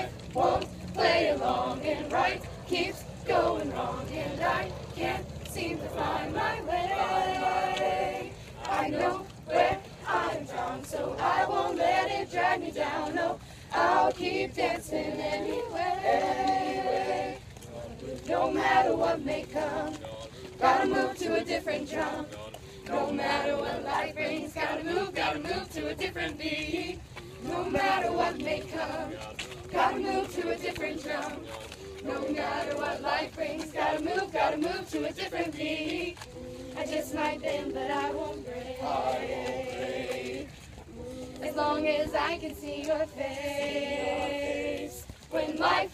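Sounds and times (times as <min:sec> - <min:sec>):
young voices singing together: 0:00.0 - 0:45.9.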